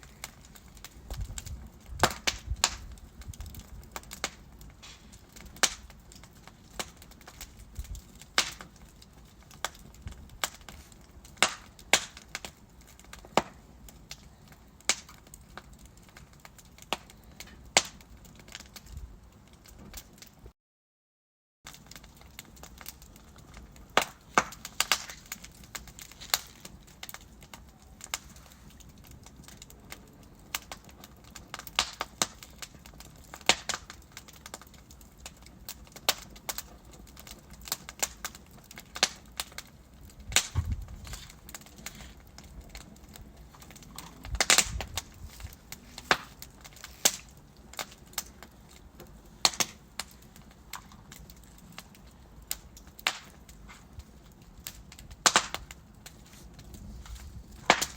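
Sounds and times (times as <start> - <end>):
low fire hiss: 0.0 - 20.4, 21.7 - 57.9
wood fire crackling and popping: 0.0 - 20.5, 21.7 - 57.9.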